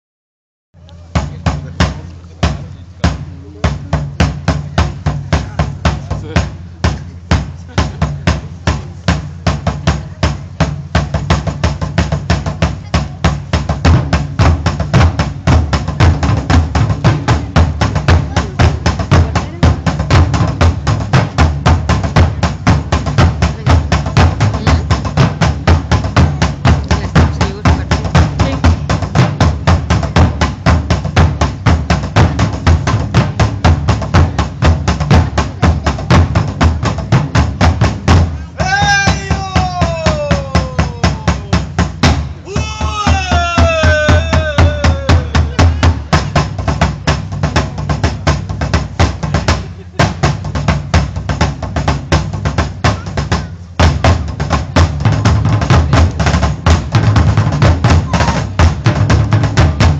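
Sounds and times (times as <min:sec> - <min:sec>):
taiko drums struck with sticks: 0:01.1 - 0:59.9.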